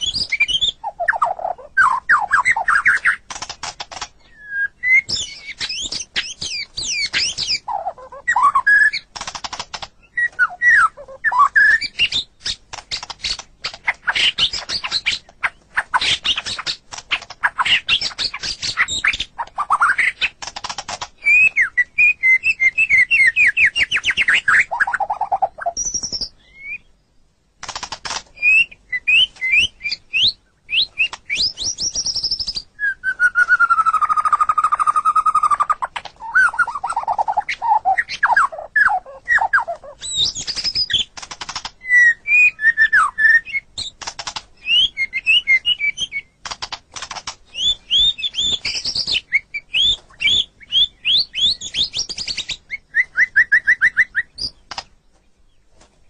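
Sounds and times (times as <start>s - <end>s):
songbird singing whistles and trills: 0.0s - 9.1s, 10.0s - 20.4s, 21.2s - 27.0s, 28.3s - 46.4s, 47.4s - 54.8s.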